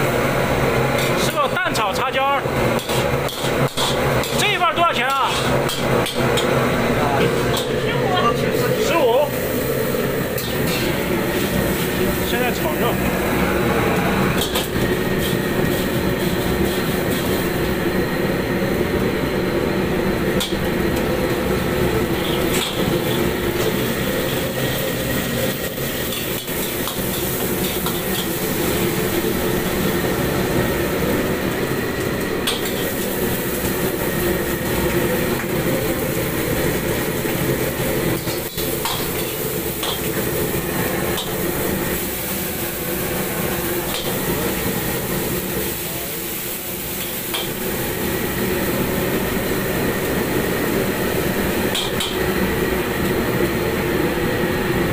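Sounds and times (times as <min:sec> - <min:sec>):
food stir-frying in a wok: 0:00.0 - 0:54.9
gas burner roaring: 0:00.0 - 0:54.9.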